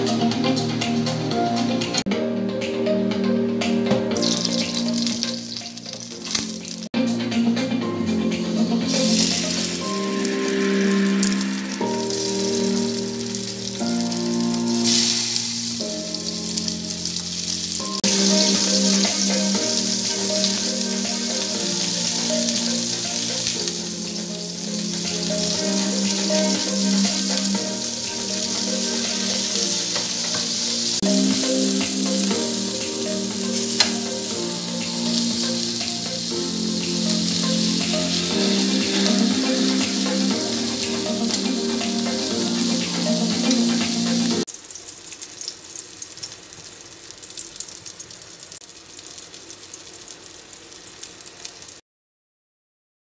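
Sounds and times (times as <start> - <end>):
background music with held notes: 0.0 - 44.5
kababs sizzling in oil: 4.2 - 6.9, 8.9 - 51.8
faint crackling hiss: 8.9 - 51.8.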